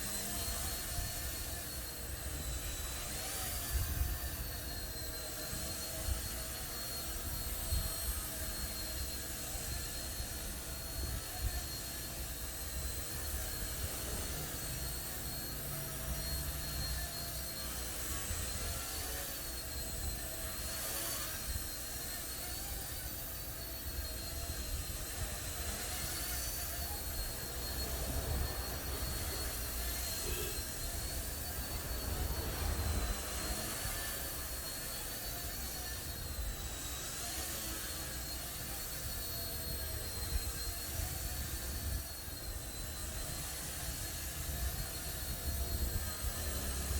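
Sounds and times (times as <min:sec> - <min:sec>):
rc helicopter rotor whine: 0:00.0 - 0:46.9.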